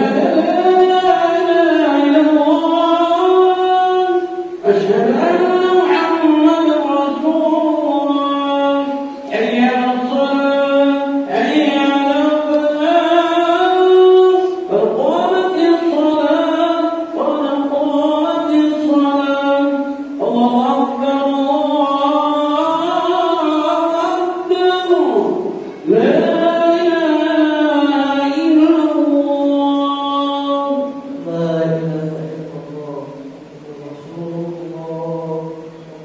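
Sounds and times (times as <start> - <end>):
man chanting: 0.0 - 36.0.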